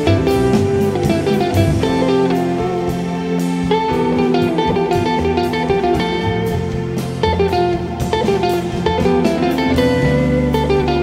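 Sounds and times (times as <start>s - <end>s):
jazz guitar playing: 0.0s - 11.0s.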